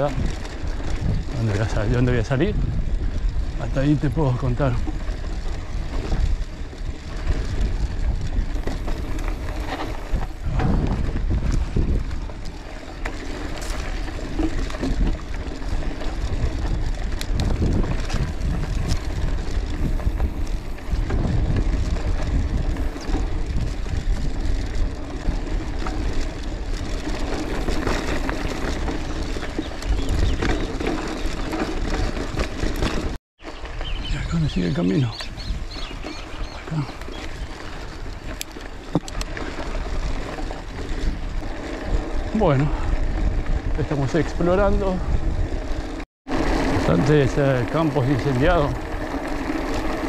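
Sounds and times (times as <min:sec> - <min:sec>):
bicycle clicks: 0:00.0 - 0:50.0
wind buffeting microphone: 0:00.0 - 0:50.0.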